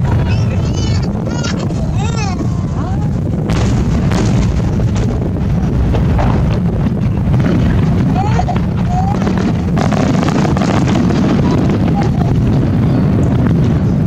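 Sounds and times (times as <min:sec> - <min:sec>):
firework booms: 0:00.0 - 0:14.0
sharp firework bangs: 0:00.0 - 0:14.0.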